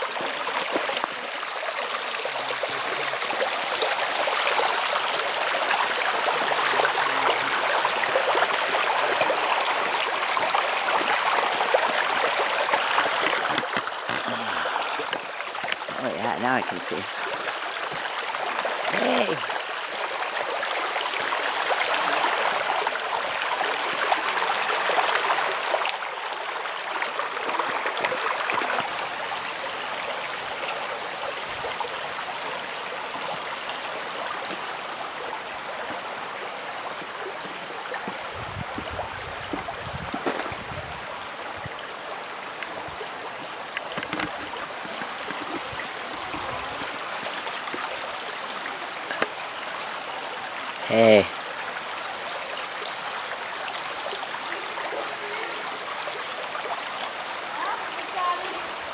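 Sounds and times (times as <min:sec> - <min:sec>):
creek running over gravel: 0:00.0 - 0:58.9.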